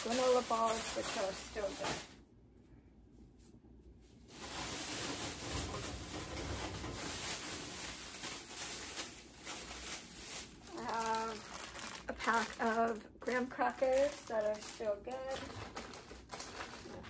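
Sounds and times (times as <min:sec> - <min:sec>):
plastic wrappers rustling: 0:00.0 - 0:02.2, 0:04.0 - 0:17.0.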